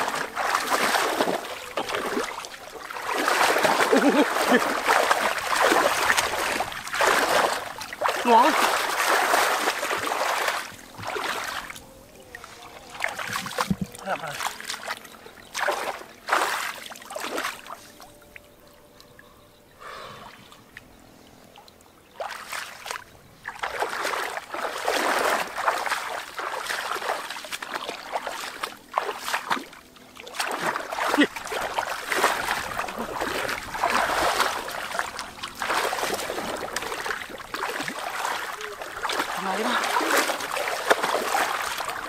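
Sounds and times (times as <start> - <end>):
shallow water splashing: 0.0 - 18.3, 21.6 - 42.0.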